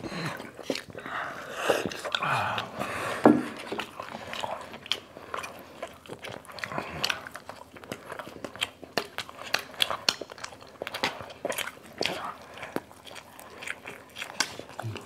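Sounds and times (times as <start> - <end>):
people chewing with mouth clicks: 0.0 - 15.0.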